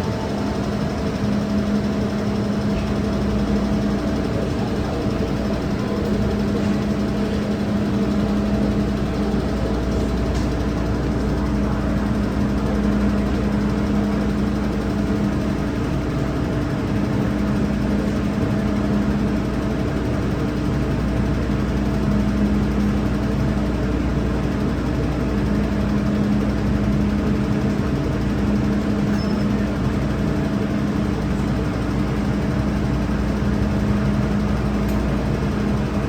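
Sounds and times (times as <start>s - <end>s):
electric train equipment humming: 0.0s - 36.0s.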